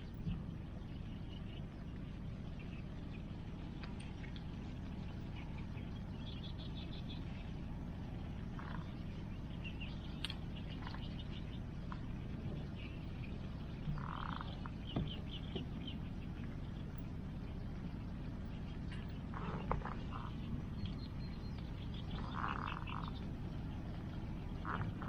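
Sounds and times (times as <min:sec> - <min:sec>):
rain: 0:00.0 - 0:25.0.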